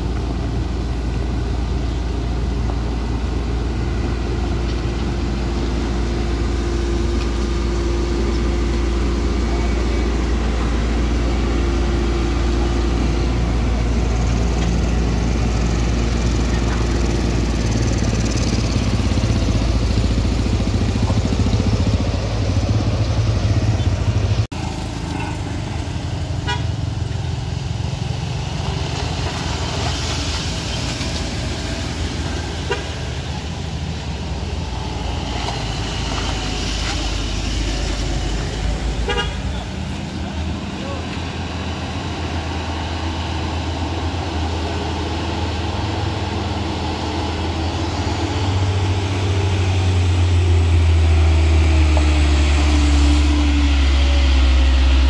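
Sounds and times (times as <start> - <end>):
heavy vehicle engines: 0.0 - 55.0
passing traffic: 0.0 - 55.0.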